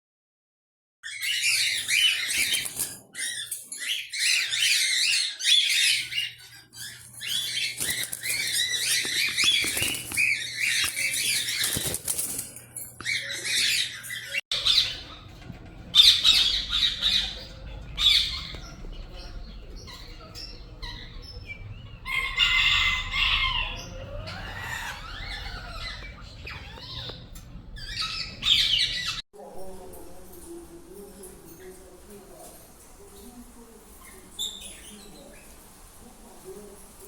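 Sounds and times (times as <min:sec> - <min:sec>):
parakeets chattering and squawking: 0:01.0 - 0:37.0.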